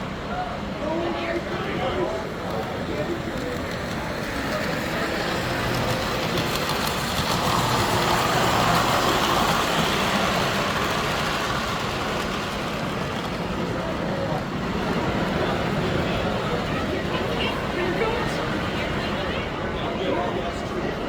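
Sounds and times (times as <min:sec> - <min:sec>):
model train running: 0:00.0 - 0:21.0.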